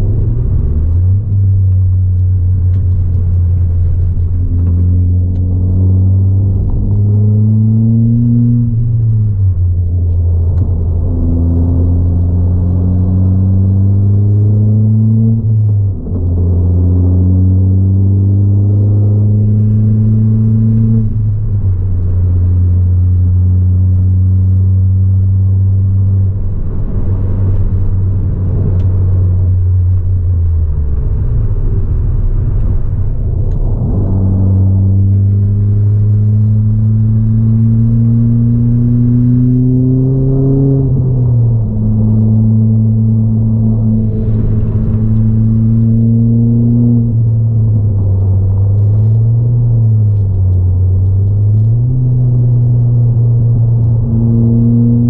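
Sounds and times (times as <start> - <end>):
car engine revving under load: 0.0 - 55.0.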